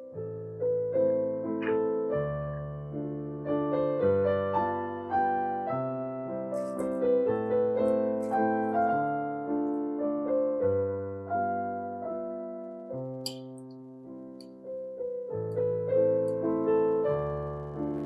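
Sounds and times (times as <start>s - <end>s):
slow solo piano: 0.0s - 18.0s.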